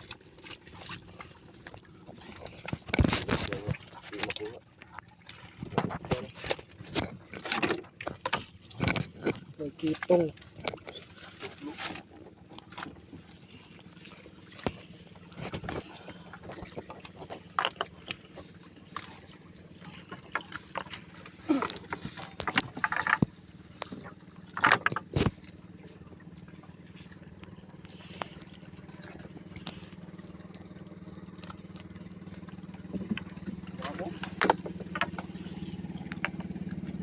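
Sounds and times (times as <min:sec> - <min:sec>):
boat engine humming: 0:00.0 - 0:37.0
water knocks and splashes: 0:00.0 - 0:37.0.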